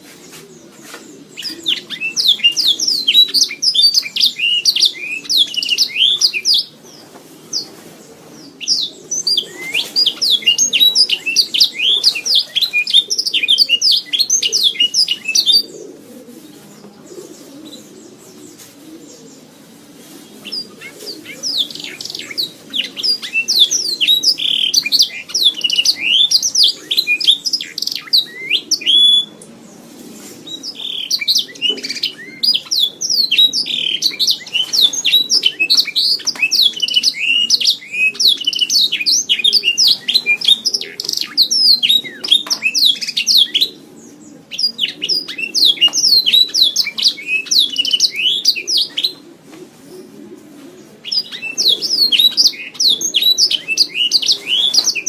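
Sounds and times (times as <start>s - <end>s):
canary singing chirps and trills: 0.0s - 7.7s, 8.3s - 15.9s, 20.4s - 29.4s, 30.6s - 49.2s, 51.0s - 55.0s.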